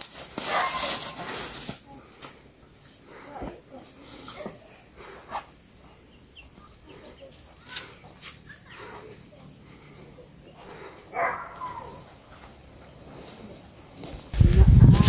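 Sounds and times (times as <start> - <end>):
high insect hum: 0.0 - 15.0.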